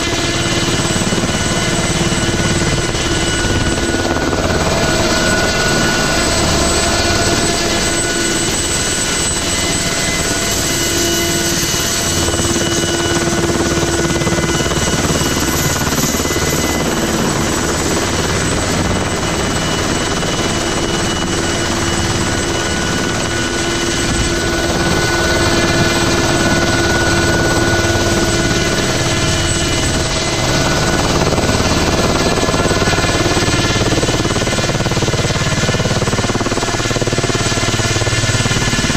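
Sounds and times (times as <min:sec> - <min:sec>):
helicopter engine and rotor noise: 0:00.0 - 0:38.9.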